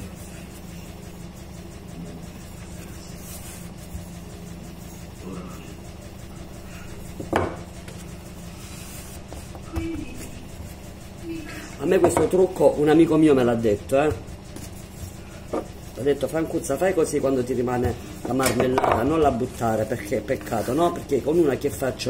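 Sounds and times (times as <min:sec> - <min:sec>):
rolling pin rolling dough: 0:00.0 - 0:22.0
steady low hum: 0:00.0 - 0:22.0.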